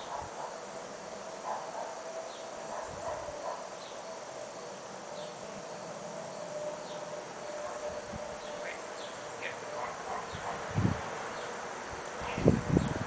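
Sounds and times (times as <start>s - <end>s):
high pulsing insect chirr: 0.0s - 13.0s
insect drone: 0.0s - 13.0s.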